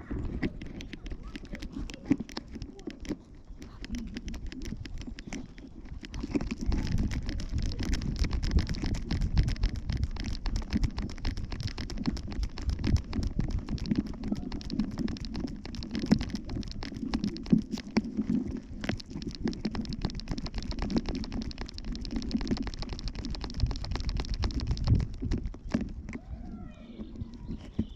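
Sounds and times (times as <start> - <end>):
camera rubbing and knocking: 0.0 - 27.9
small clicks: 0.2 - 27.9.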